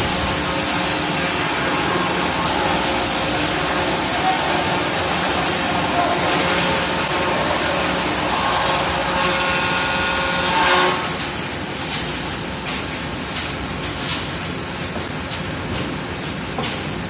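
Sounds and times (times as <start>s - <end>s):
sawmill machine running: 0.0s - 15.3s.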